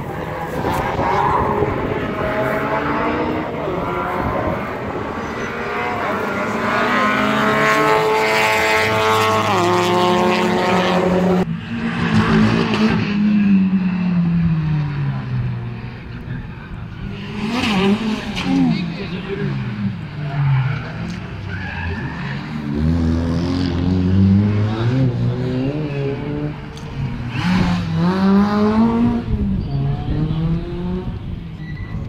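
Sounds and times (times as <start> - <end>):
rally car engines at full throttle: 0.0 - 32.0.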